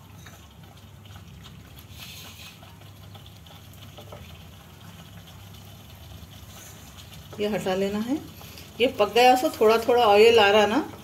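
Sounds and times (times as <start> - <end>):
gravy bubbling and spluttering: 0.0 - 11.0.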